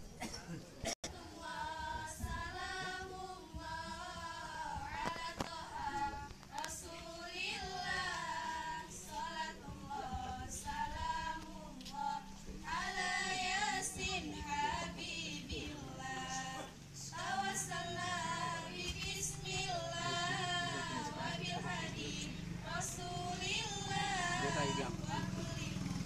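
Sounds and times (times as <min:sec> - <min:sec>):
girls singing together: 0:01.0 - 0:26.0.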